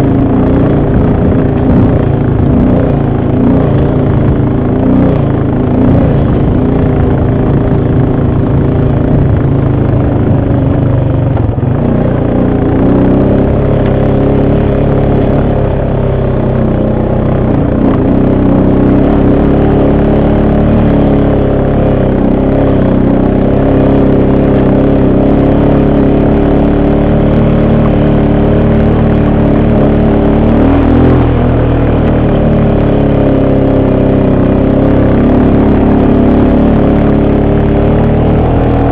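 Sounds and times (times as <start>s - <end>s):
loud atv engine running: 0.0s - 38.9s.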